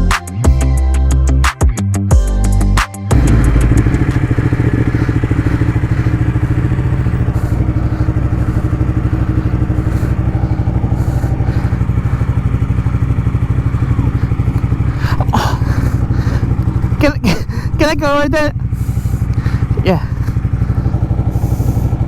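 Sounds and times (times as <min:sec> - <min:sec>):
motorcycle engine idling: 0:03.1 - 0:22.0.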